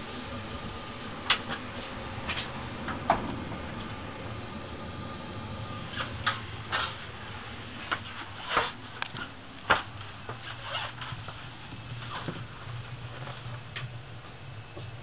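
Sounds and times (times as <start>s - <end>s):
low train rumble: 0.0s - 15.0s.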